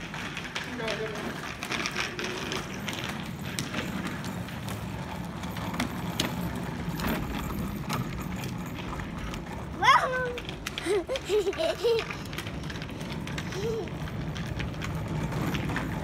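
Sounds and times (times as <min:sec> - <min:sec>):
plastic wheels rolling on asphalt: 0:00.0 - 0:16.0.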